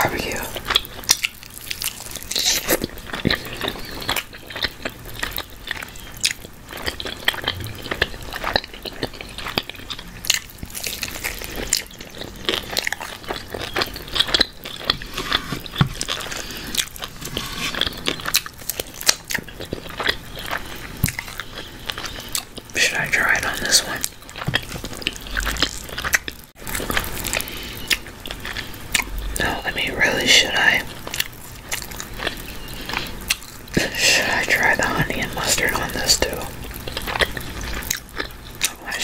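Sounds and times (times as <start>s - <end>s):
biting and chewing: 0.1s - 29.6s, 30.9s - 39.0s.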